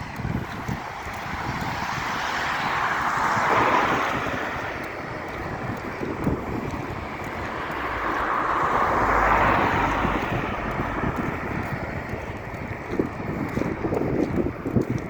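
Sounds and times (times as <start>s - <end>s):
vehicle passing by: 0.0s - 15.0s
wind rumble on microphone: 0.0s - 15.0s.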